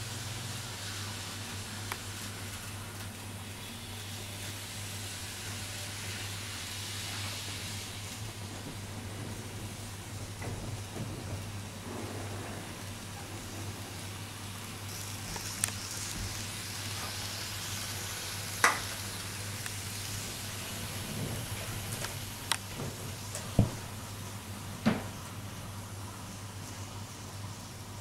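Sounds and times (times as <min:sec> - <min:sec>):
model train hum and hiss: 0:00.0 - 0:28.0.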